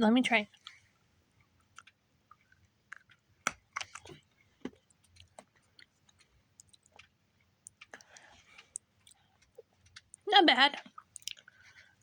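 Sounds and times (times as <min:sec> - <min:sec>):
person chewing crunchy biscuit: 0:00.5 - 0:12.0.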